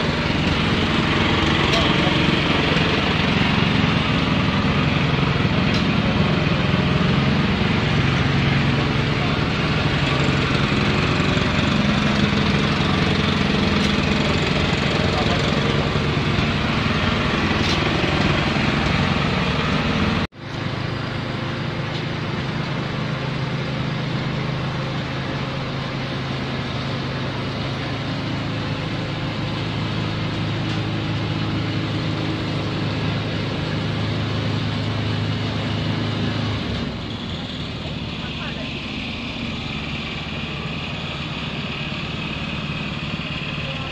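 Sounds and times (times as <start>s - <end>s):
machine motor humming: 0.0s - 43.9s.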